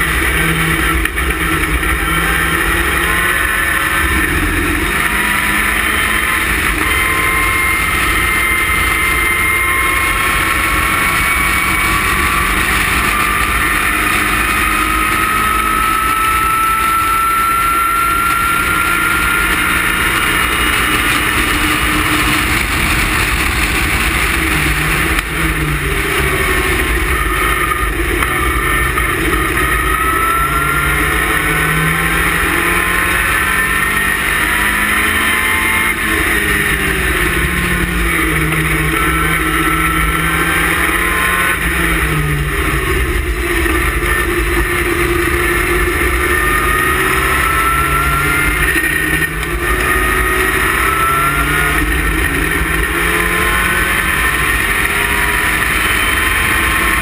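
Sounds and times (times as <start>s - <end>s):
car engine at high revs: 0.0s - 57.0s.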